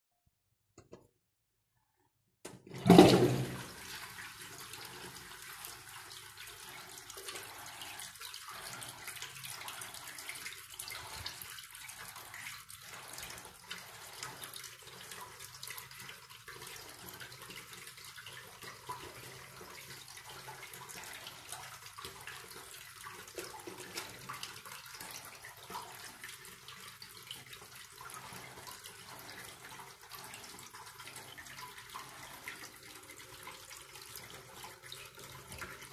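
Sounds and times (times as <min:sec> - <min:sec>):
toilet flush water rushing: 0:02.5 - 0:35.9.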